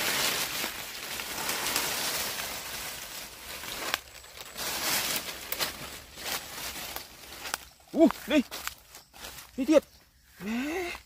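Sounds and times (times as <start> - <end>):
dry leaves rustling and crackling: 0.0 - 9.9.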